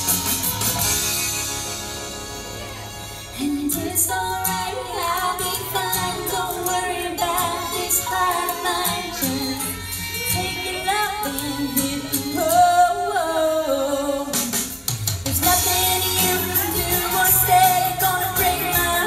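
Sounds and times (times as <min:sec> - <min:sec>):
instrumental backing: 0:00.0 - 0:19.0
woman singing into microphone: 0:03.4 - 0:19.0.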